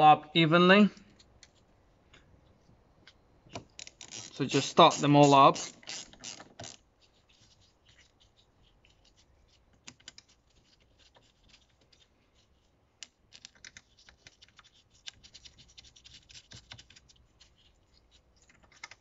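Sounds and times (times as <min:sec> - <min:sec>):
screwdriver clicking and scraping: 0:01.1 - 0:01.7, 0:03.0 - 0:19.0.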